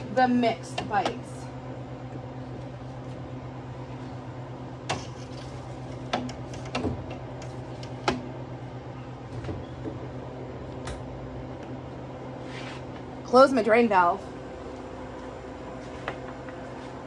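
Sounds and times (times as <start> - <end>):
freeze dryer humming: 0.0 - 17.0.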